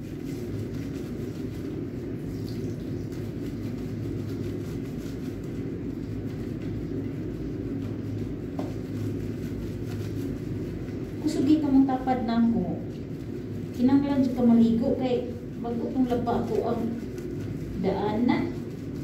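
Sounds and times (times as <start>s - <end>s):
steady low hum: 0.0s - 19.0s
wet rubbing of cat fur: 0.0s - 19.0s.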